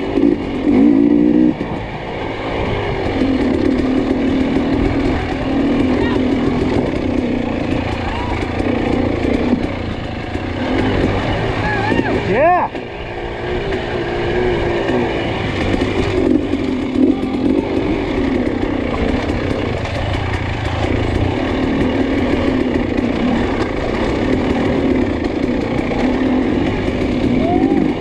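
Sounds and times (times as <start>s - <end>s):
dirt bike engine: 0.0s - 28.0s.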